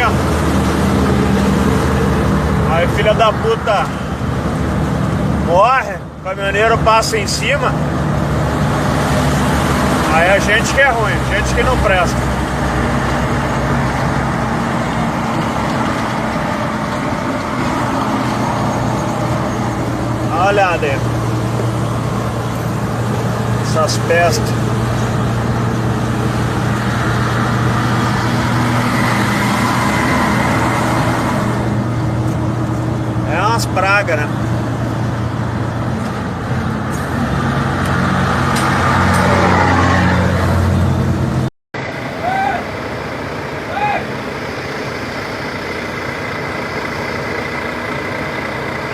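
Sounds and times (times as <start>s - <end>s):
truck engine running: 0.0s - 39.6s, 40.4s - 48.9s
road noise: 0.0s - 48.9s.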